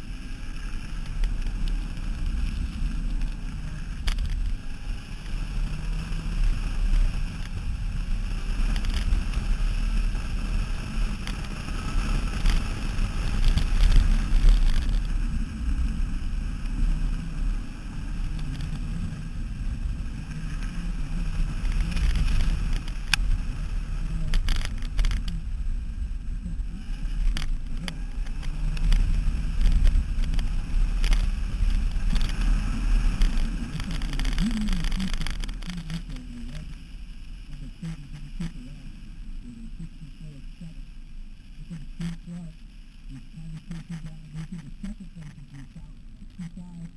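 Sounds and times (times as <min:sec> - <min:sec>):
wind rumble on microphone: 0:00.0 - 0:46.9.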